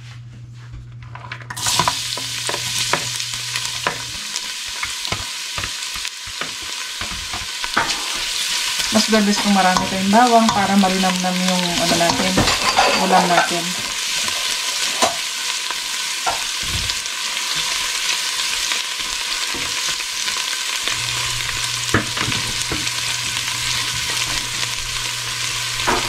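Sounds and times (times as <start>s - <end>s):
garlic sizzling in oil: 1.6s - 26.0s.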